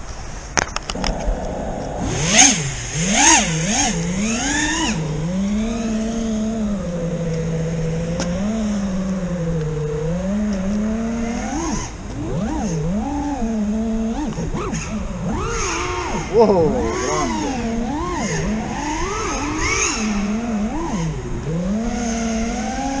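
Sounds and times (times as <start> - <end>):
drone motors whining: 0.9 - 23.0.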